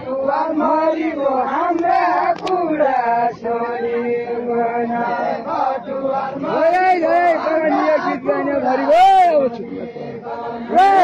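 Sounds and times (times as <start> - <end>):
crowd singing in unison: 0.0 - 11.0.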